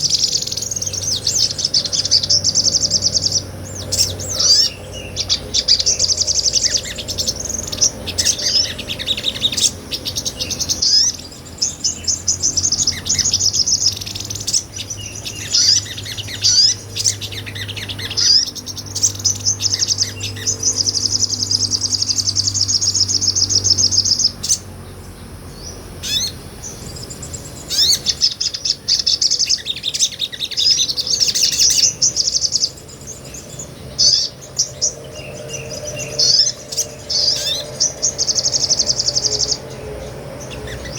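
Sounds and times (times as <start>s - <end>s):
bird singing rapid high trills: 0.0s - 40.9s.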